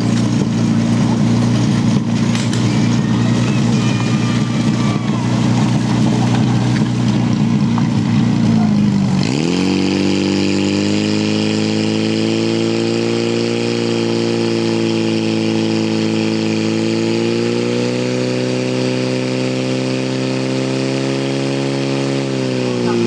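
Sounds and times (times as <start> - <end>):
fire pump engine at high revs: 0.0 - 23.0.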